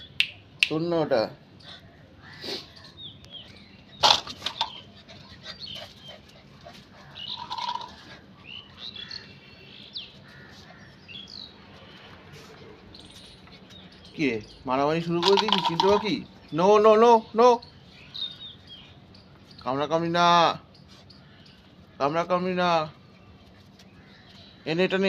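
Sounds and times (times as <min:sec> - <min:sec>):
small birds chirping: 0:00.0 - 0:00.8, 0:01.5 - 0:25.0.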